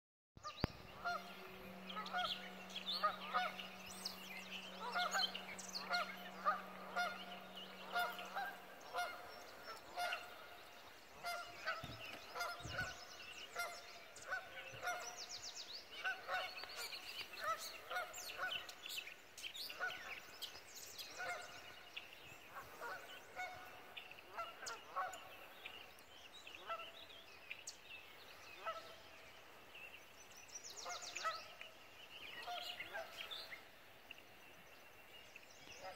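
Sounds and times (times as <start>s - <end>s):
birds honking: 0.4s - 30.1s, 30.7s - 34.6s
songbird trills: 0.4s - 35.9s.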